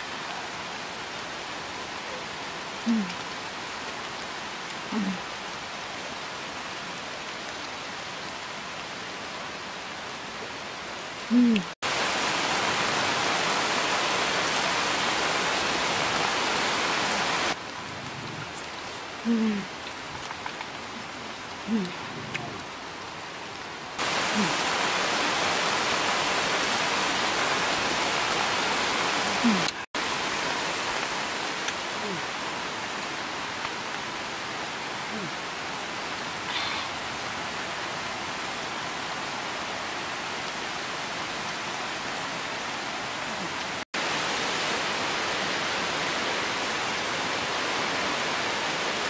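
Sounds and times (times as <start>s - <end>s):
outdoor background hiss: 0.0s - 49.0s.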